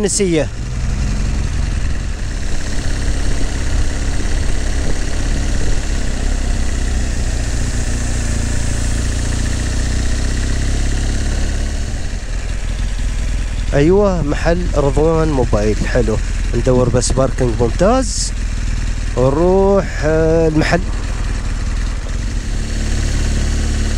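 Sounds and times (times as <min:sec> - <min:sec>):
motorcycle engine running: 0:00.0 - 0:23.9
wind and road noise: 0:00.0 - 0:23.9.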